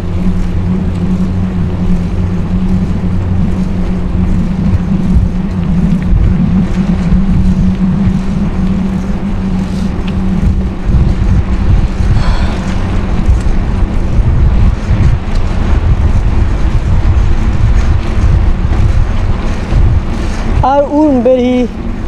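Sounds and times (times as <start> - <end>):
steady low hum: 0.0 - 22.0
wind buffeting microphone: 0.0 - 22.0.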